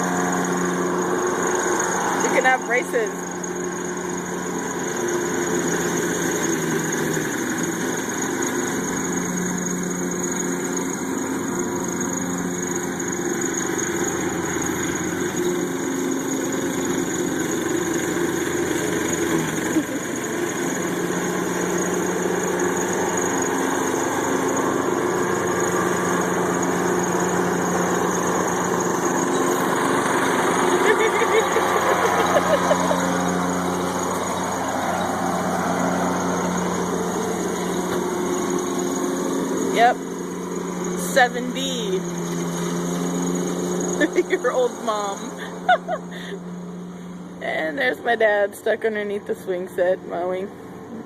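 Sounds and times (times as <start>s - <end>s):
riding lawnmower engine running: 0.0s - 51.0s.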